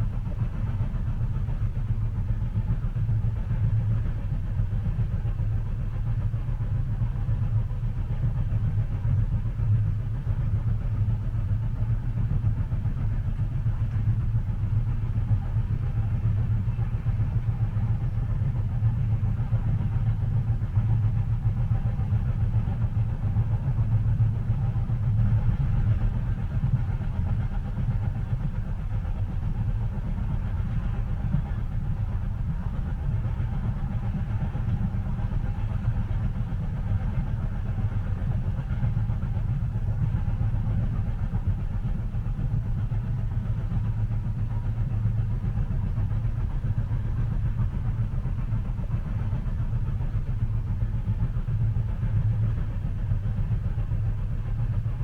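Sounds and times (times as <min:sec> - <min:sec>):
train rumbling from inside cabin: 0:00.0 - 0:55.0.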